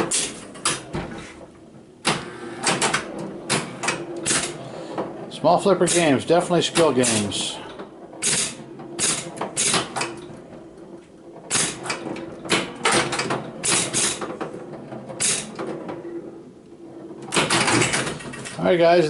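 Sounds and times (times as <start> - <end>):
pinball machine clacks and bangs: 0.0 - 18.7.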